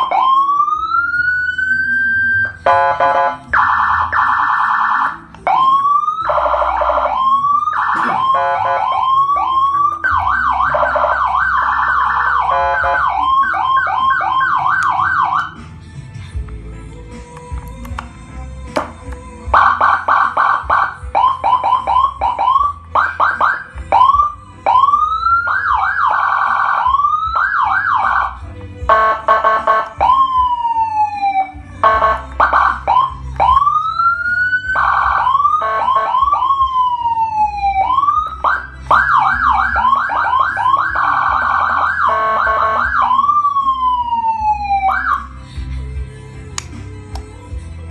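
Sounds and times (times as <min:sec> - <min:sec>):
electronic siren wailing: 0:00.0 - 0:15.6, 0:19.6 - 0:45.3.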